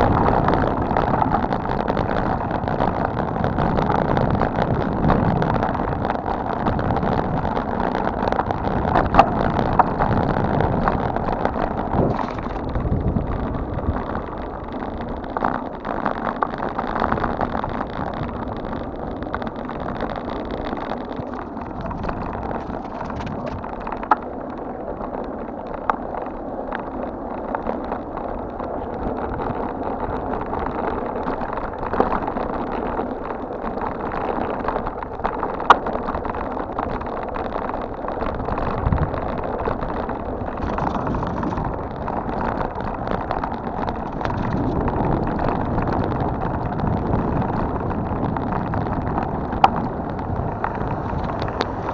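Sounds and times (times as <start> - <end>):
bike tyres rumbling on rough road: 0.0 - 51.9
wind on microphone: 0.0 - 51.9.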